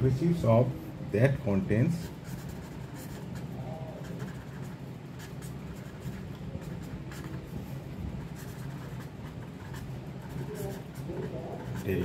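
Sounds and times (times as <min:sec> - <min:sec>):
steady low hum: 0:00.0 - 0:12.0
pen scratching on paper: 0:02.0 - 0:12.0.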